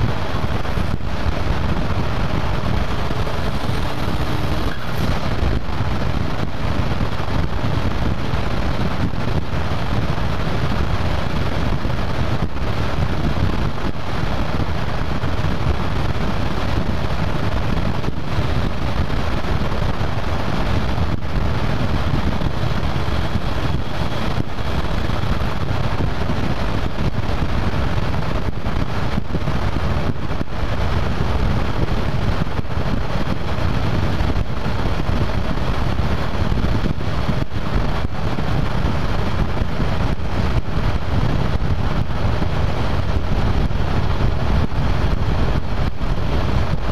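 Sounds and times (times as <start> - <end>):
car engine and road noise: 0.0 - 46.9
wind buffeting microphone: 0.0 - 46.9.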